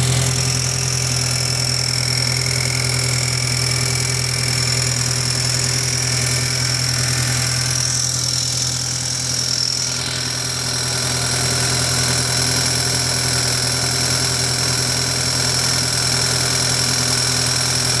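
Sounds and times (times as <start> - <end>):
car engine idling: 0.0 - 18.0
engine ticking: 0.0 - 18.0.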